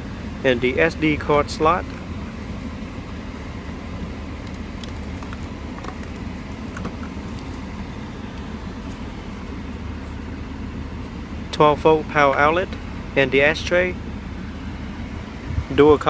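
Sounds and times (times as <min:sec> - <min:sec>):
car running inside cabin: 0:00.0 - 0:16.0.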